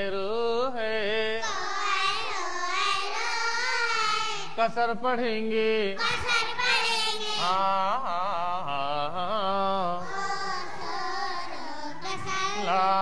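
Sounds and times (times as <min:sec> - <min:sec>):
voices chanting sing-song: 0:00.0 - 0:13.0.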